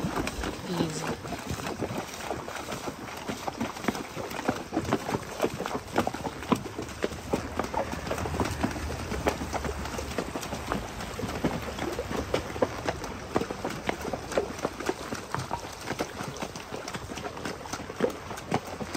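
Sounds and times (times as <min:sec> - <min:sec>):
hooves clopping on stones: 0:00.0 - 0:18.9
water splashing: 0:00.0 - 0:18.9.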